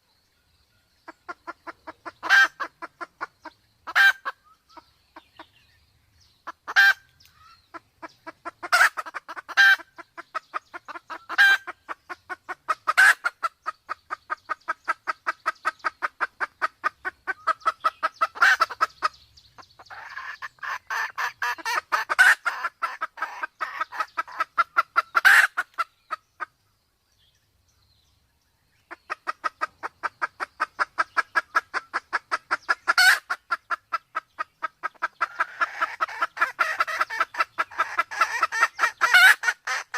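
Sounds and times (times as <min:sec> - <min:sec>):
hen clucking: 0:01.0 - 0:05.6, 0:06.4 - 0:26.6, 0:28.9 - 0:39.9.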